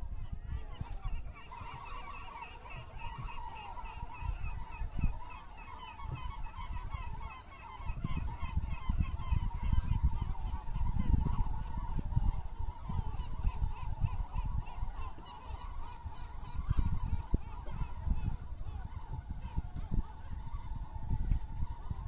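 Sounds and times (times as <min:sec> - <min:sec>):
gulls calling: 0:00.0 - 0:22.0
wind on microphone: 0:00.0 - 0:22.0.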